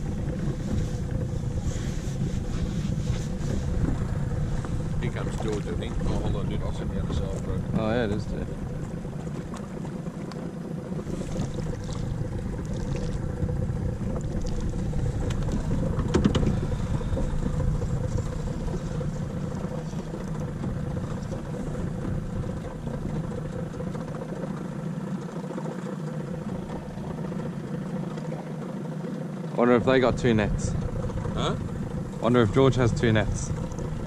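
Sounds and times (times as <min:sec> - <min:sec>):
outboard motor running: 0:00.0 - 0:34.0
water rushing along hull: 0:00.0 - 0:34.0.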